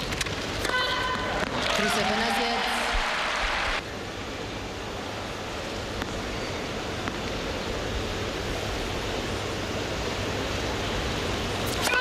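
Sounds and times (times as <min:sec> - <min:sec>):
quiet indoor crowd hiss: 0:00.0 - 0:12.0.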